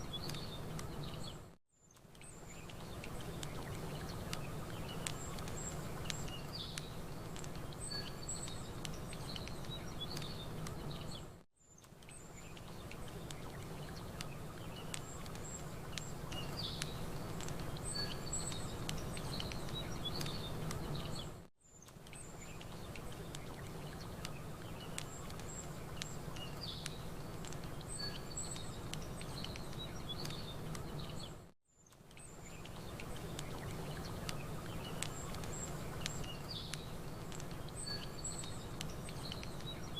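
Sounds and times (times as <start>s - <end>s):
campfire crackling: 0.0s - 1.4s, 2.0s - 39.9s
small birds chirping: 0.0s - 39.9s.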